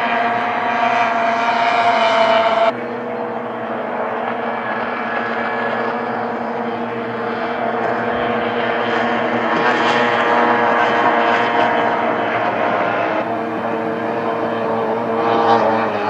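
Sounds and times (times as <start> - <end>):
racing outboard engine running flat out: 0.0 - 16.0.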